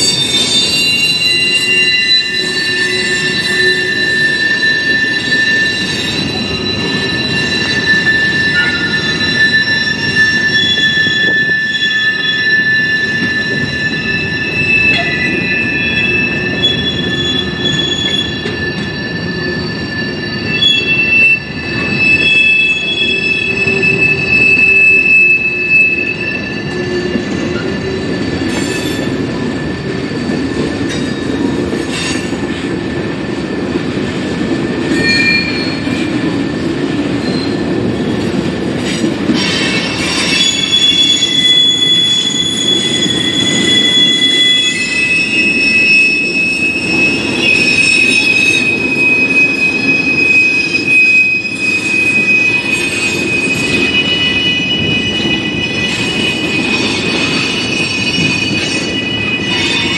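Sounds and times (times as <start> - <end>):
freight train cars rumbling: 0.0 - 59.9
train wheels squealing: 0.0 - 59.9.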